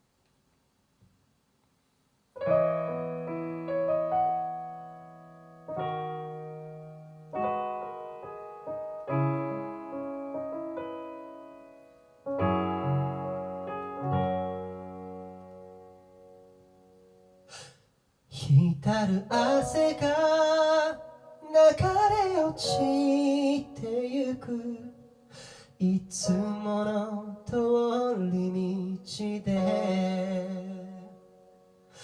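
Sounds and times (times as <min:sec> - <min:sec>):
piano chords ringing: 0:02.4 - 0:17.5, 0:18.4 - 0:32.0.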